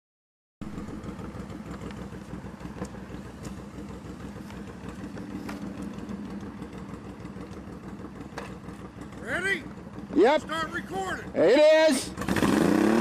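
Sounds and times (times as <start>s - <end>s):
motorcycle engine rumbling: 0.6s - 13.0s.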